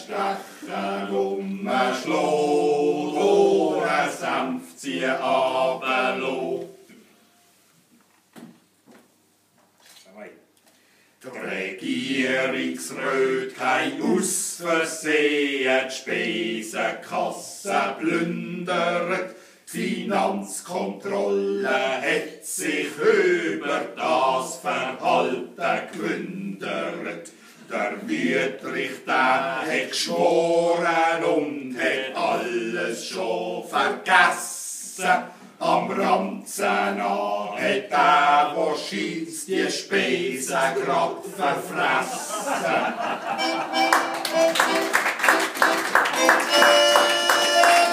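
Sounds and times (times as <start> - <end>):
men singing: 0.0 - 6.8, 11.4 - 43.8.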